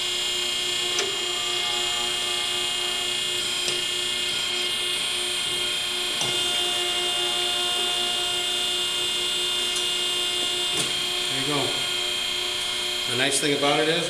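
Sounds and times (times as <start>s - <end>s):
hydraulic power unit whining: 0.0s - 14.0s.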